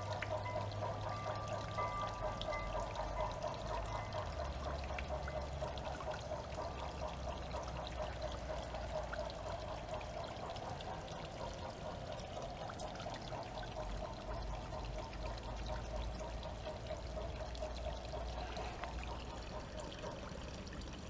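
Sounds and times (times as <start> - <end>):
water pouring and splashing: 0.0 - 21.0.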